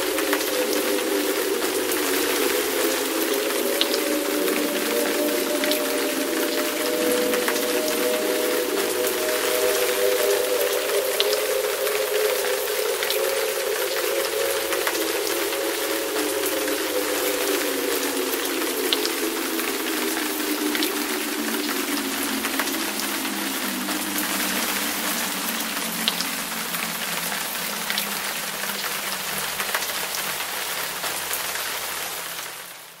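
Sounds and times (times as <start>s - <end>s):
siren winding down: 0.0s - 27.3s
steady hiss: 0.0s - 32.8s.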